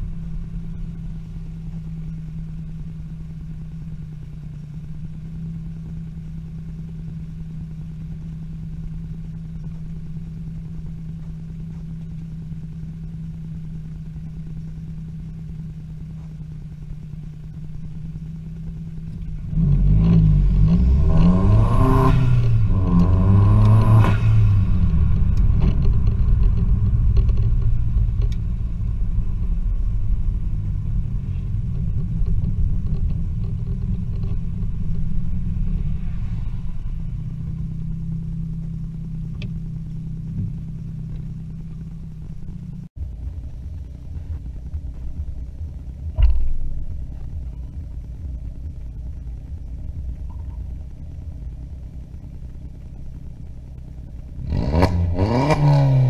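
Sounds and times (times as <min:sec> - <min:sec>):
van engine idling and revving: 0:00.0 - 0:56.0.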